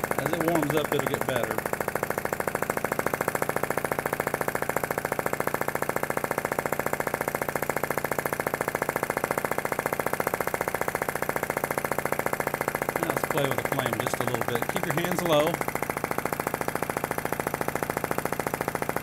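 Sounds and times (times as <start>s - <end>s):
model engine clattering: 0.0s - 19.0s.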